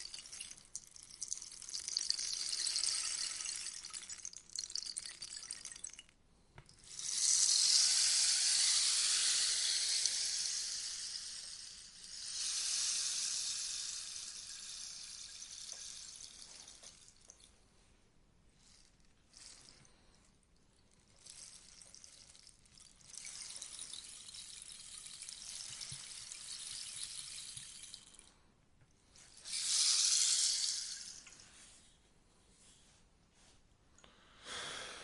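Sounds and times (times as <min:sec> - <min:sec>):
rainstick trickling hiss: 0:00.0 - 0:17.5, 0:18.6 - 0:28.3, 0:29.1 - 0:31.8.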